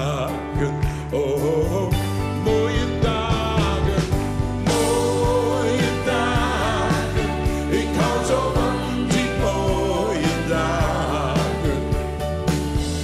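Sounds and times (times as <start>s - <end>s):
person singing: 0.0s - 12.4s
live pop band playing: 0.0s - 13.0s.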